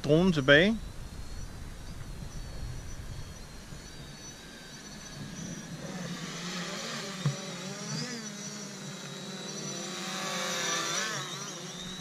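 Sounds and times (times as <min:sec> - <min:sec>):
drone propellers whirring: 0:00.0 - 0:12.0.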